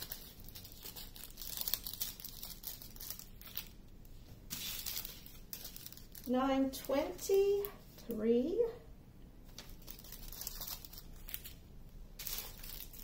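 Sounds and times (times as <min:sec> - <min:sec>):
plastic bags crinkling: 0:00.0 - 0:08.0, 0:09.5 - 0:13.0.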